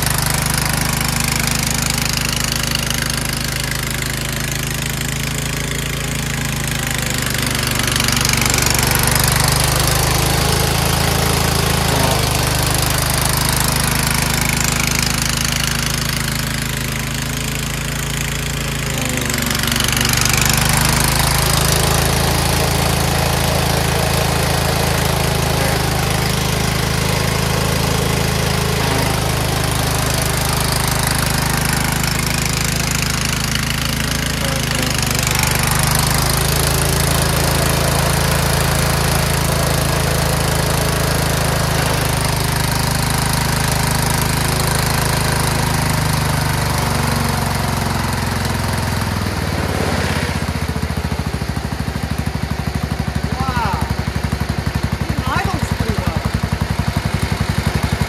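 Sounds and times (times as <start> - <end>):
lawn tractor engine running: 0.0 - 58.0.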